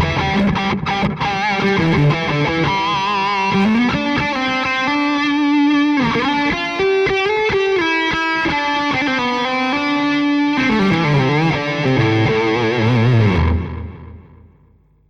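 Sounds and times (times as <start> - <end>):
distorted electric guitar lead: 0.0 - 14.8.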